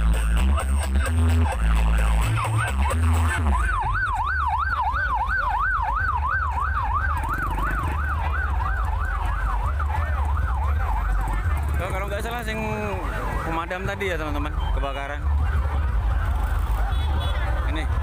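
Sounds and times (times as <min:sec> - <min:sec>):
music with heavy bass: 0:00.0 - 0:18.0
electronic siren yelping: 0:00.1 - 0:17.0.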